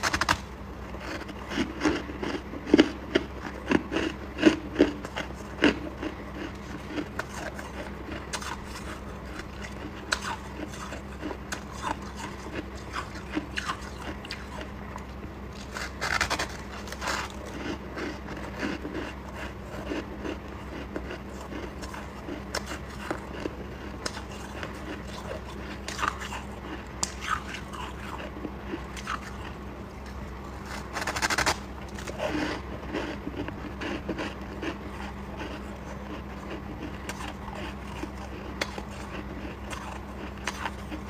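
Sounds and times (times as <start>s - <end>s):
frost being bitten and chewed: 0.0s - 41.0s.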